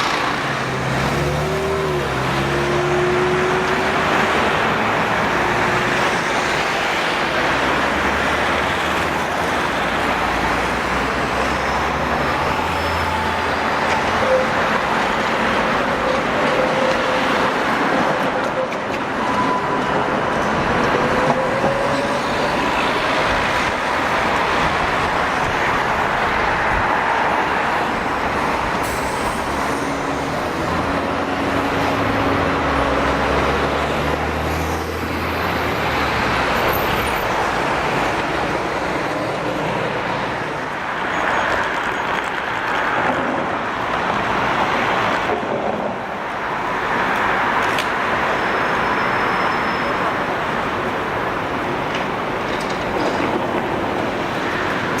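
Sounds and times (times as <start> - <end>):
city street traffic: 0.0 - 55.0
tram running by: 0.0 - 55.0.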